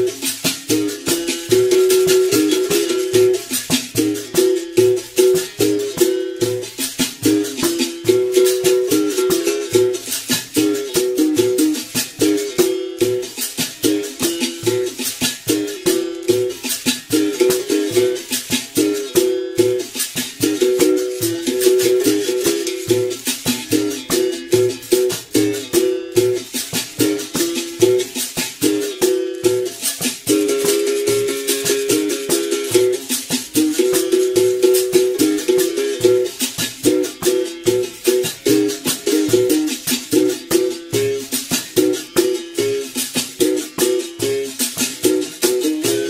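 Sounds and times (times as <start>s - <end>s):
basket rattle shaking: 0.0s - 46.0s
berimbau rhythm: 0.0s - 46.0s.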